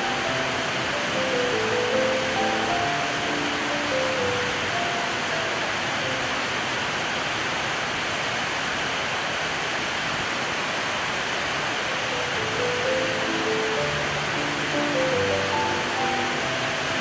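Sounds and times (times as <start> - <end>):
rain on metal and tile roofs: 0.0 - 17.0.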